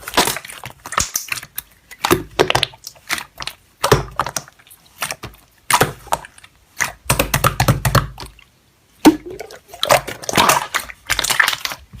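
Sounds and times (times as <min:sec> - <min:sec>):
slime squelching by hand: 0:00.0 - 0:12.0.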